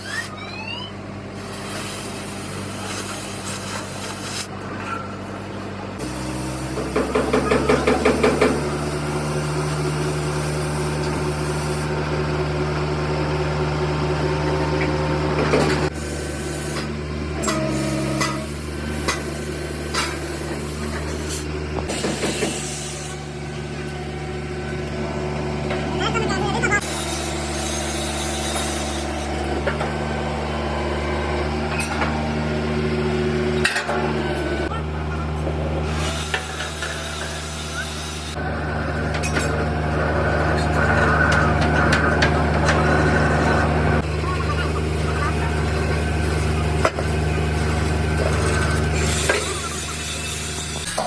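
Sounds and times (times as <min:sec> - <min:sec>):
machine hum: 0:05.7 - 0:51.0.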